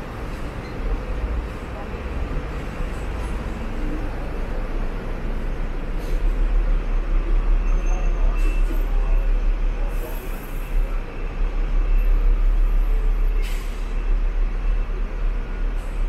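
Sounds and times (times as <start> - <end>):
tram rumbling and rattling: 0.0 - 16.0.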